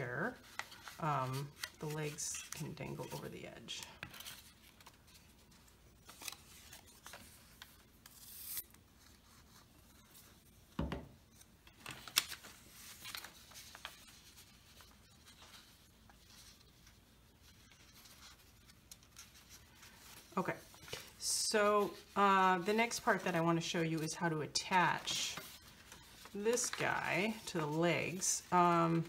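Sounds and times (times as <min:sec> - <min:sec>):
paper rustling and rubbing: 0:00.0 - 0:10.6, 0:11.2 - 0:29.0.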